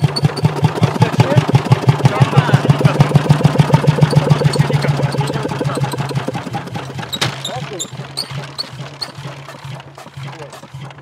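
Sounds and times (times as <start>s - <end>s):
tractor engine running slowly: 0.0s - 11.0s
steady low hum: 0.2s - 11.0s.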